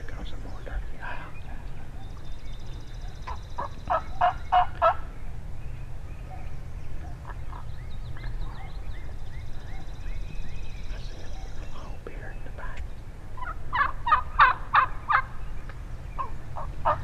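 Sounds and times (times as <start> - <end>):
songbirds chirping faintly: 0.0 - 17.0
wild turkey calling: 0.0 - 17.0.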